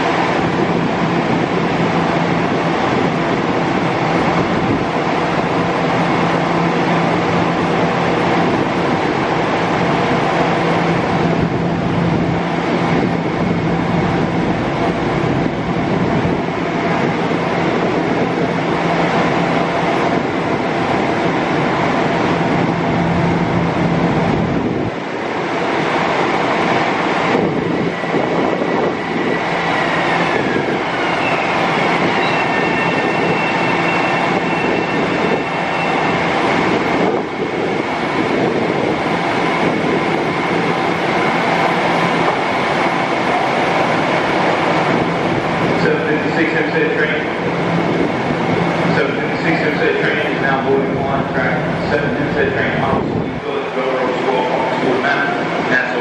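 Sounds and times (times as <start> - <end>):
train rumble and hum: 0.0 - 56.0
train whine sliding down: 0.0 - 56.0.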